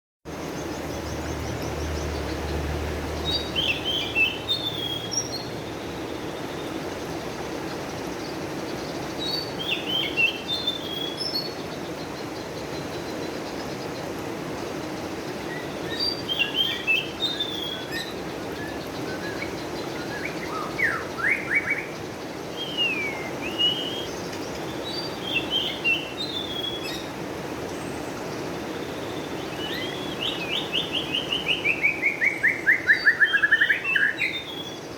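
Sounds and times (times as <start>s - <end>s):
songbird chirping: 0.3s - 34.9s.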